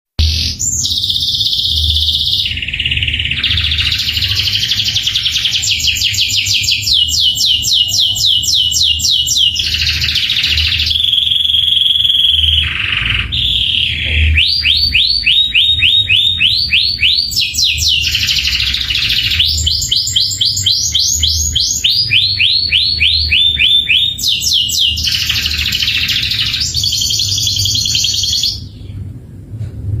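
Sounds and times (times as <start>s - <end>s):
canary singing trills: 0.2s - 29.0s.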